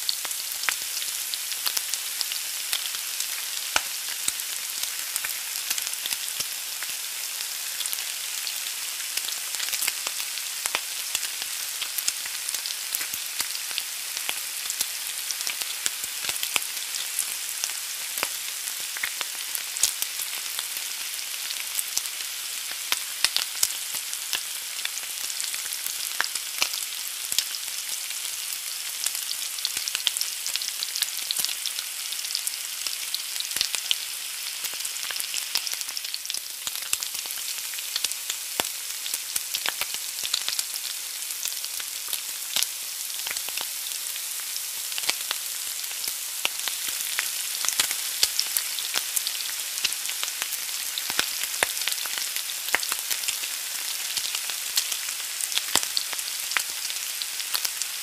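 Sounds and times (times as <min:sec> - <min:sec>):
egg sizzling in a pan: 0:00.0 - 0:58.0.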